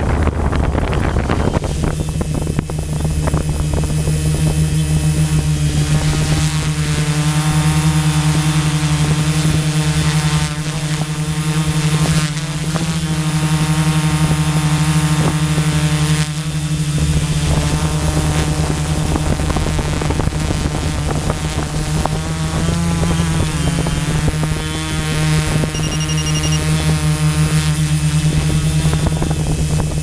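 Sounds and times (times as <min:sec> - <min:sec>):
drone motors buzzing hum: 0:00.0 - 0:30.0
wind noise: 0:00.0 - 0:30.0.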